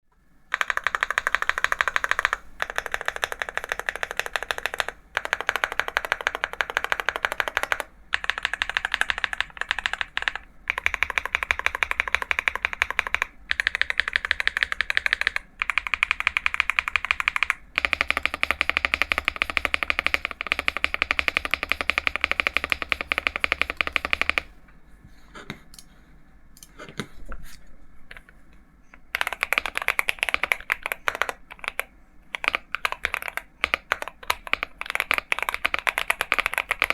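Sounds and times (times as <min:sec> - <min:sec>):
typing on mechanical keyboard: 0:00.5 - 0:24.5, 0:29.0 - 0:36.9.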